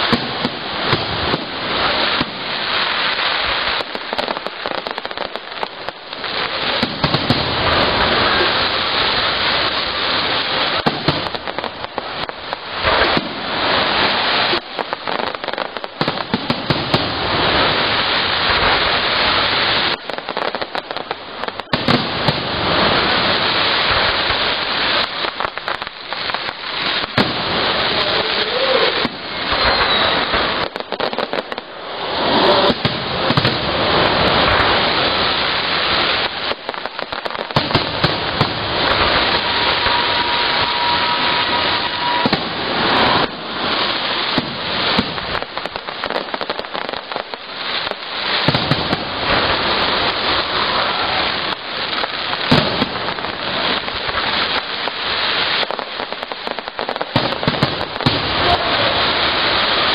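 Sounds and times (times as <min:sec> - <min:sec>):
fireworks bangs: 0:00.0 - 0:59.9
fireworks crackling hiss: 0:00.0 - 0:59.9.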